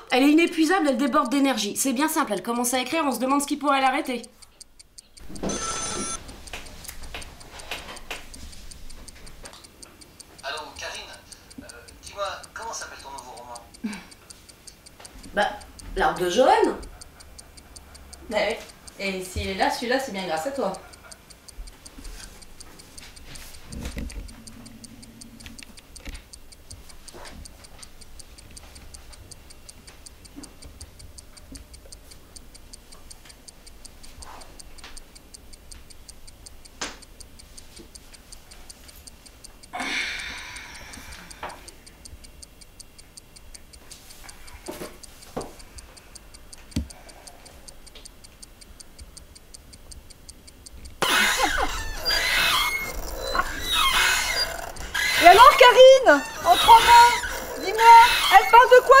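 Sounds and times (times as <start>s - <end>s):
clock ticking: 0.0s - 59.0s
faint clicks: 0.0s - 59.0s.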